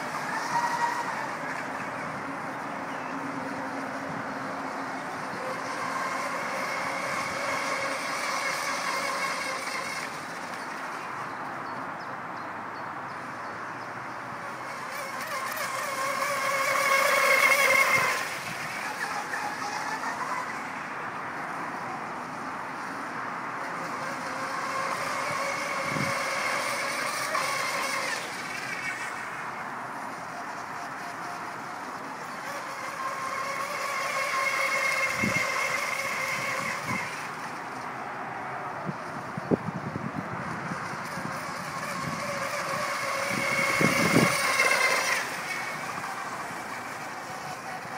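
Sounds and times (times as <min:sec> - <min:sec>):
model boat motor whining: 0:00.0 - 0:47.9.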